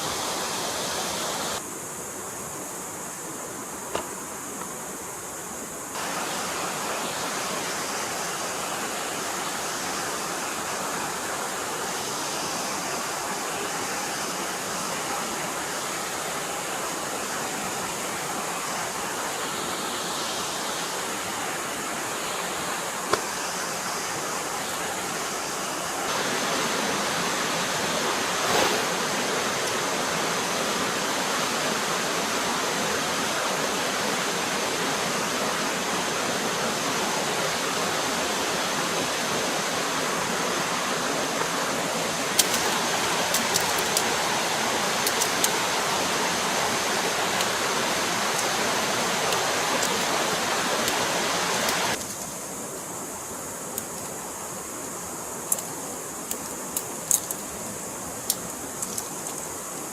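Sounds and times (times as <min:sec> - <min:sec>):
forest stream flowing: 0:00.0 - 0:59.9.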